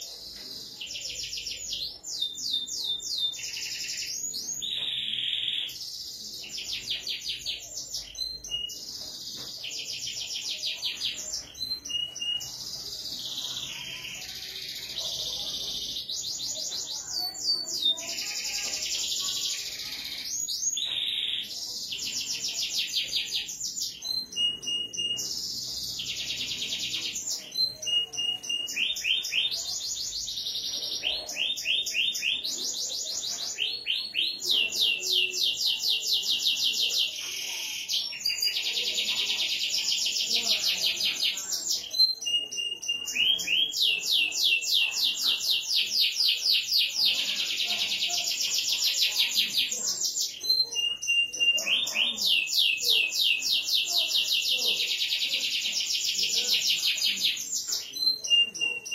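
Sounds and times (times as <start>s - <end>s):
canary trilling: 0.0s - 58.9s.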